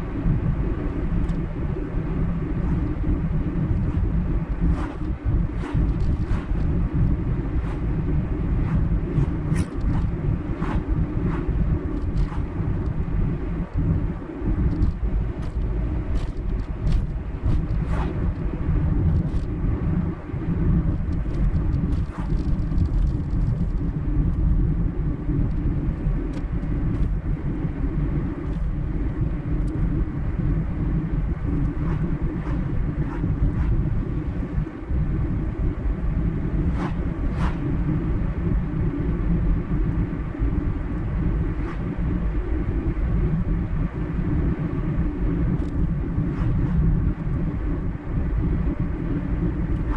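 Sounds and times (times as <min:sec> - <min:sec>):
car tyre and engine rumble: 0:00.0 - 0:49.9.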